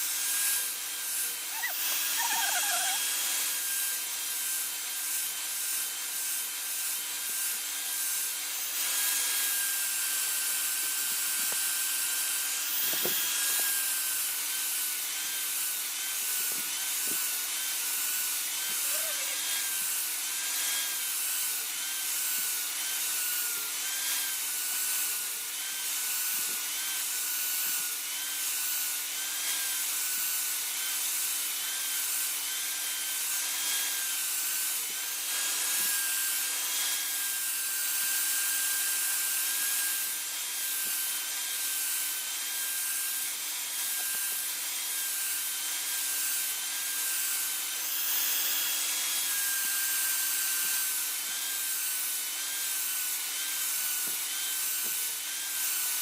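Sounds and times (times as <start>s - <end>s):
grinder whining on a steel blade: 0.0s - 56.0s.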